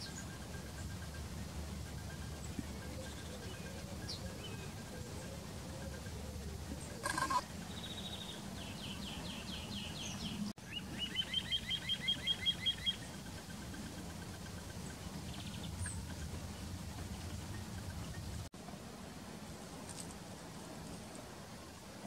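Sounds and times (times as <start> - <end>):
bird song of sharp repeated notes: 0.0 - 18.5.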